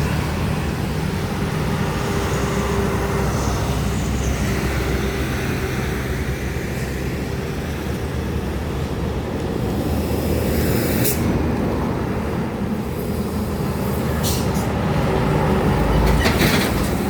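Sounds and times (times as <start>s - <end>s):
heavy trucks and buses passing: 0.0s - 17.0s
road noise: 0.0s - 17.0s.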